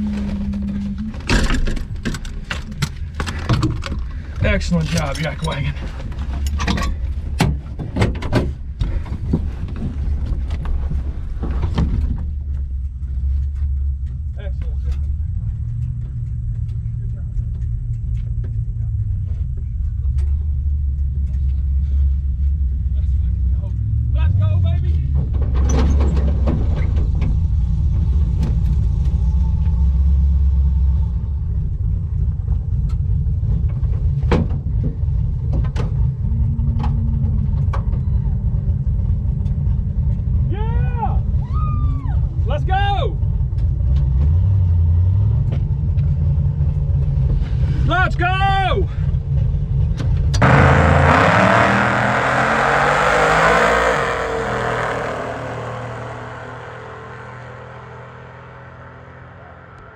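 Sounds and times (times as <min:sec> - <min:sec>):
car engine deep rumble: 0:00.0 - 0:59.9.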